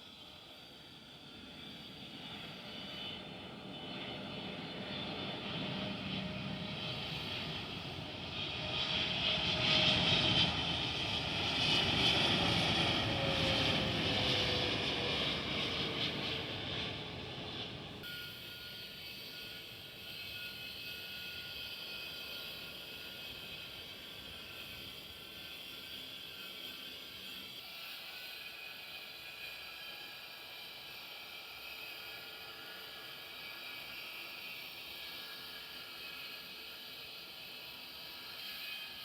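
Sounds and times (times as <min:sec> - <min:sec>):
airplane engines passing by: 0:00.0 - 0:39.0.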